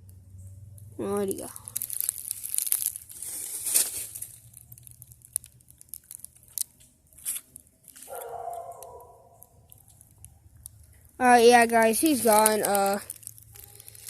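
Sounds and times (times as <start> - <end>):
dry leaves rustling and crackling: 0.8 - 14.0.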